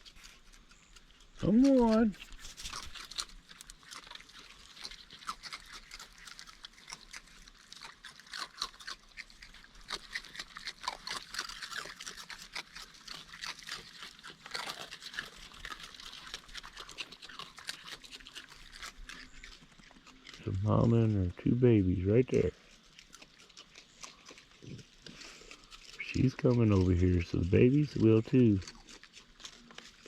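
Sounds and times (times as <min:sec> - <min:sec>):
animals chewing dry food: 0:00.0 - 0:30.0.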